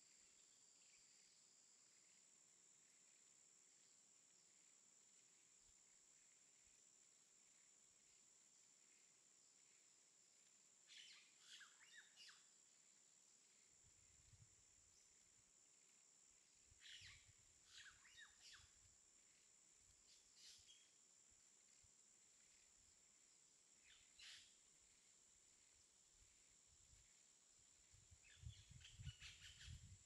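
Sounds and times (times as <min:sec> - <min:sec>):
faint bird chirps: 0:00.0 - 0:30.0
high-pitched hiss: 0:00.0 - 0:30.0.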